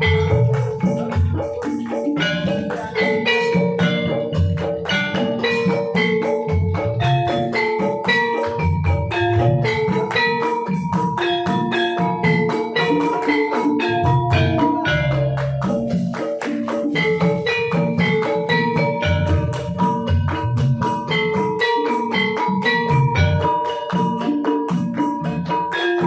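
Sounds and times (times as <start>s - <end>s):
metallophones playing: 0.0s - 26.0s.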